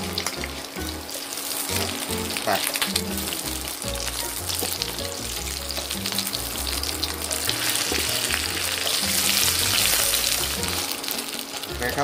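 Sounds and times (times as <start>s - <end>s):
background music with bass line: 0.0s - 12.0s
pancakes sizzling in hot oil: 0.0s - 12.0s.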